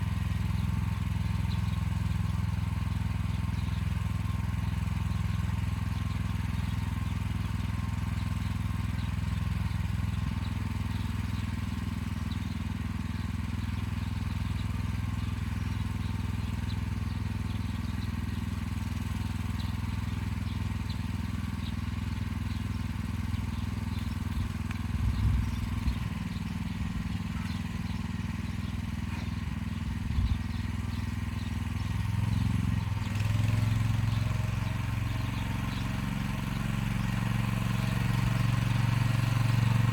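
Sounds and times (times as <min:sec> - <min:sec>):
walk-behind tractor engine running: 0:00.0 - 0:39.9.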